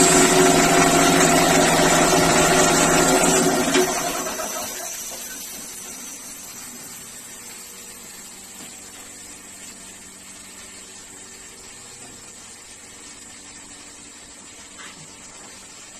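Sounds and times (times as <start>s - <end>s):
compressor humming: 0.0s - 15.9s.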